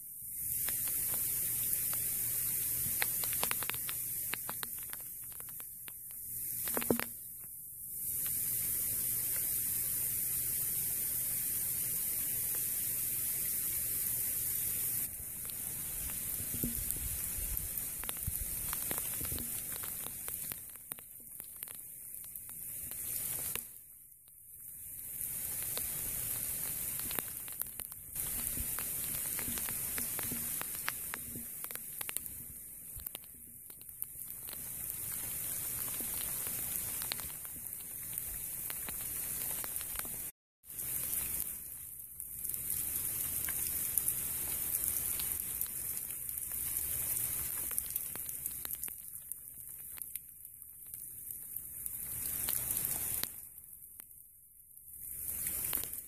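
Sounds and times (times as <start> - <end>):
freezing rain hissing: 0.0 - 54.2, 54.8 - 56.0
sleet pellets ticking: 0.2 - 54.2.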